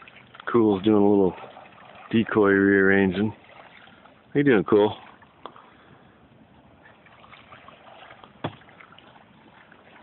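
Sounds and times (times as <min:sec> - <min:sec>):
faint water sloshing: 0:00.0 - 0:10.0.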